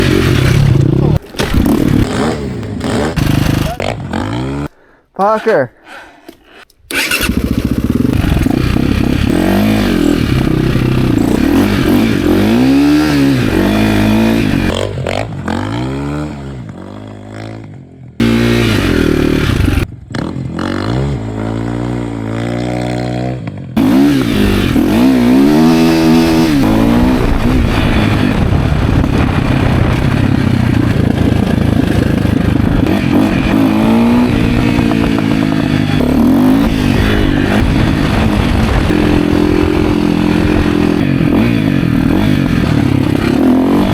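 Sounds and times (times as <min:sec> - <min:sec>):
motorcycle engine revving: 0:00.0 - 0:04.8, 0:06.9 - 0:43.9.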